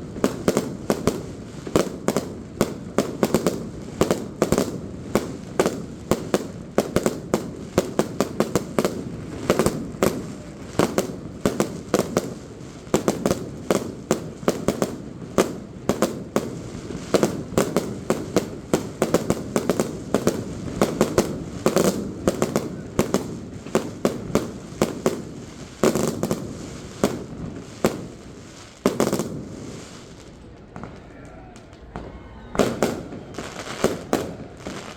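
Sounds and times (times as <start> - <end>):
fireworks bursting with sharp bangs: 0.0 - 34.9.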